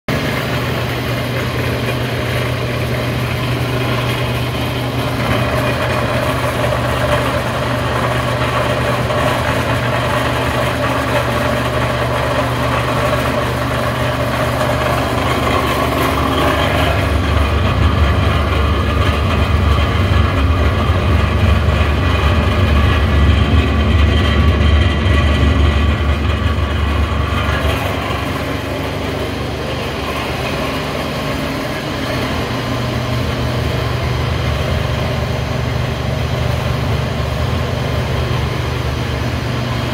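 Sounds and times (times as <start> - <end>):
recycling machinery humming: 0.1 - 39.9.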